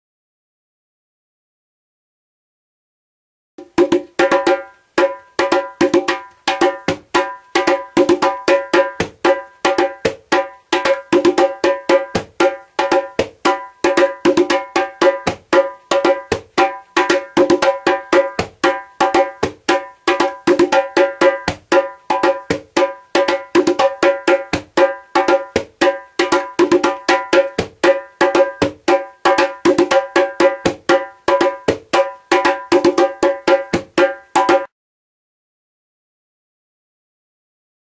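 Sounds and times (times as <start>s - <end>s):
djembe drum rhythm: 3.6s - 34.7s.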